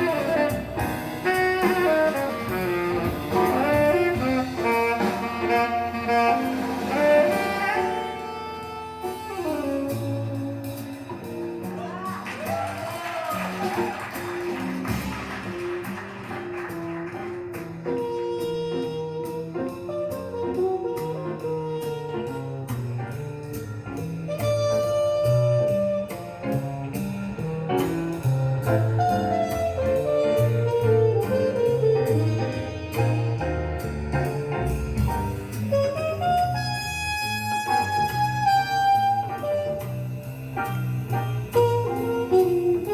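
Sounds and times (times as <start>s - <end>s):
recorded jazz: 0.0s - 42.9s.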